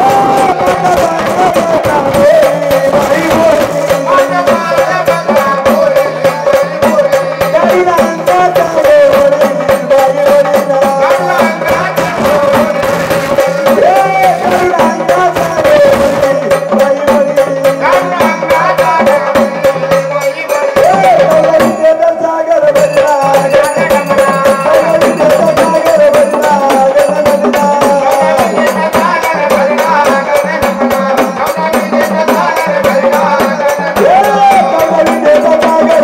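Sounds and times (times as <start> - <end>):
fast steady percussion: 0.0 - 36.0.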